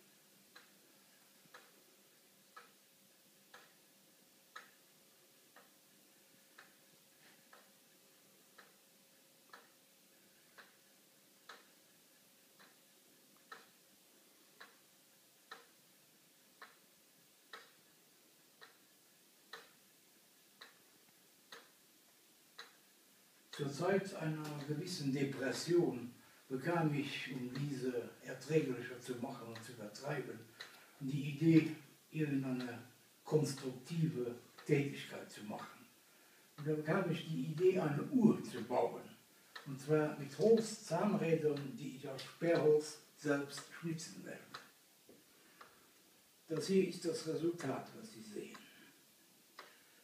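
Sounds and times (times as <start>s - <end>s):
pendulum clock ticking: 0.0s - 50.0s.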